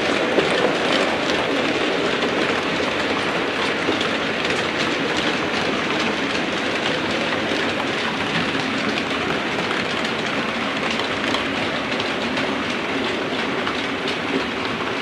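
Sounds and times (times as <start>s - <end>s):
model train rolling rumble: 0.0s - 15.0s
wheels clicking over rail joints: 0.0s - 15.0s.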